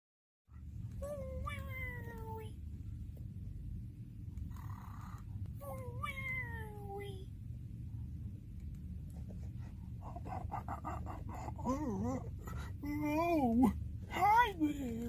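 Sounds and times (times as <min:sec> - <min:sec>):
steady low hum: 0:00.5 - 0:15.0.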